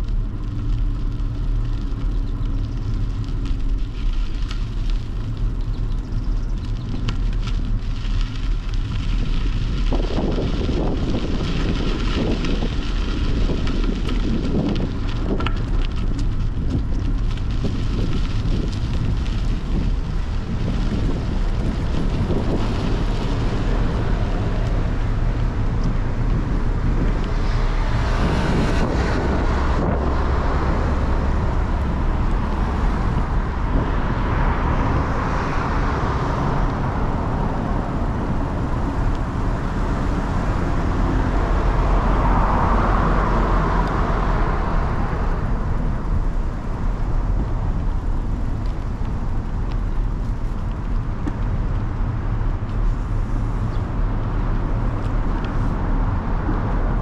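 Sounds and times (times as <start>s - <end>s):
vehicles passing: 0.0s - 57.0s
wind and road noise: 0.0s - 57.0s.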